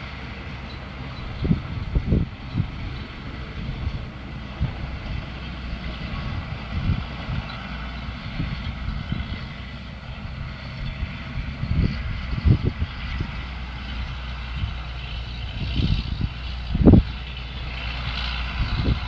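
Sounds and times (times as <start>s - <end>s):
distant tractor diesel engine: 0.0s - 19.0s.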